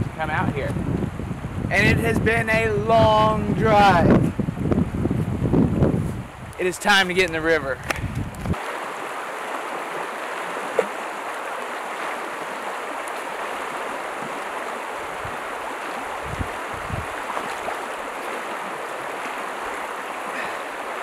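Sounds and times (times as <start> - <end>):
flowing river water: 3.1 - 21.0.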